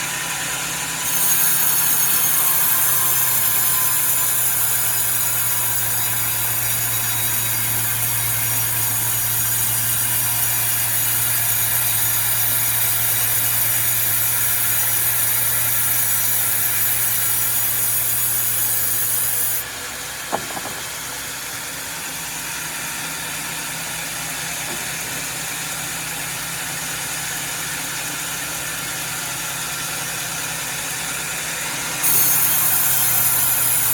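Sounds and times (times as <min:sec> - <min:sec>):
saw cutting log with high hiss: 0:00.0 - 0:33.9
sawmill engine hum: 0:00.0 - 0:33.9.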